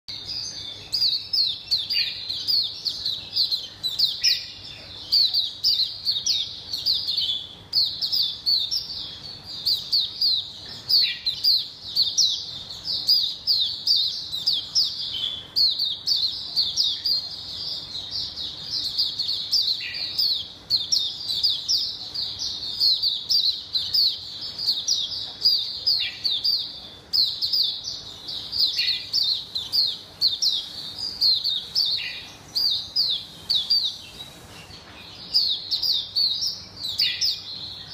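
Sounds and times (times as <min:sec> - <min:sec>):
bird chirping: 0:00.0 - 0:37.9.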